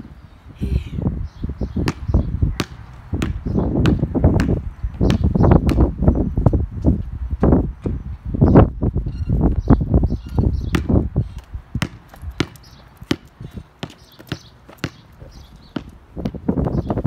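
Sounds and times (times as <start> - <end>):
basketball bouncing on asphalt: 1.7 - 8.0, 9.4 - 17.0.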